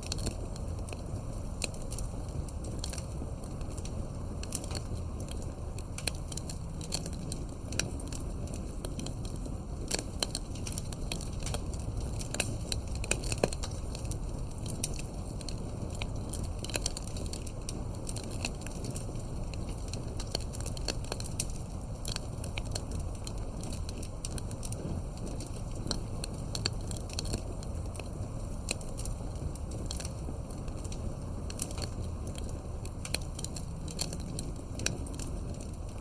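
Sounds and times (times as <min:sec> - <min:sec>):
campfire pops and snaps: 0:00.0 - 0:36.0
low rumble of burning wood: 0:00.0 - 0:36.0.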